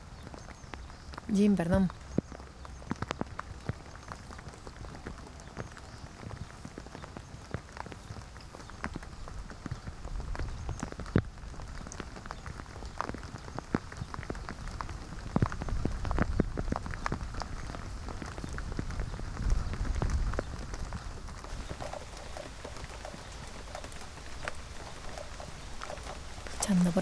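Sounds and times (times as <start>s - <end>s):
rain falling: 0.0s - 27.0s
raindrops ticking close by: 0.0s - 27.0s.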